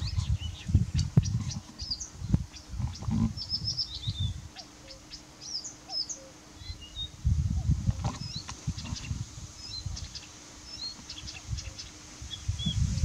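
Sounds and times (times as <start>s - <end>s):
warbler singing: 0.0s - 13.0s.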